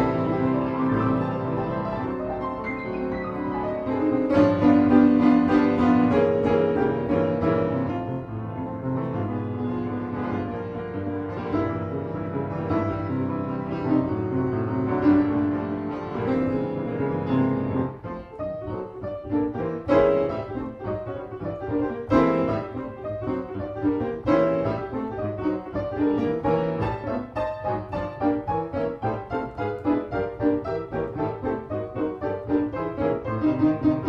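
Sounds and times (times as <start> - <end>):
piano chords and notes: 0.0 - 34.0.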